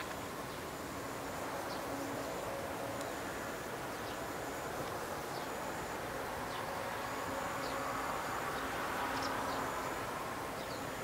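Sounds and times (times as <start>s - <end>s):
high insect trill: 0.0s - 11.0s
steady background hiss: 0.0s - 11.0s.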